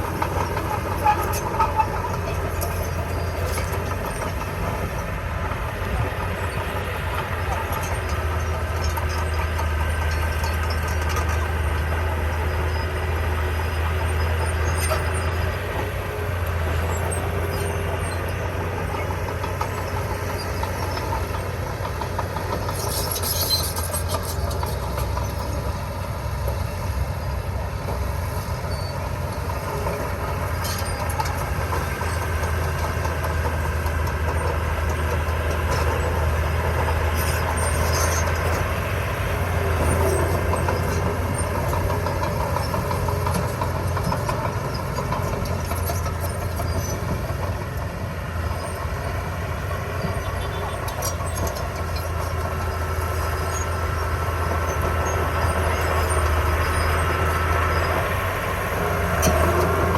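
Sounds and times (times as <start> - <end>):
diesel machinery engine hum: 0.0 - 59.9.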